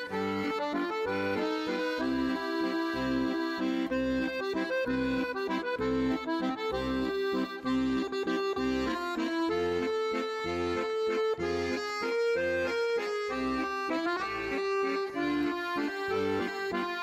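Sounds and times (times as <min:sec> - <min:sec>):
bouncy instrumental music: 0:00.0 - 0:17.0.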